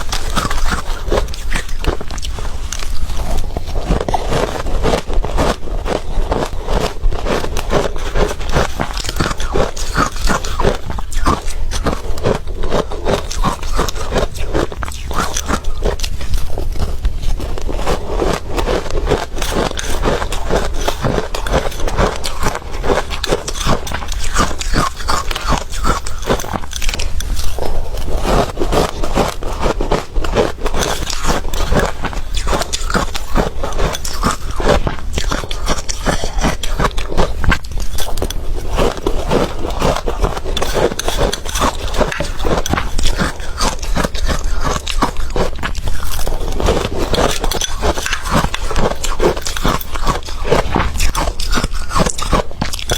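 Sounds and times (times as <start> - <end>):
chewing ice crunches: 0.0 - 52.9.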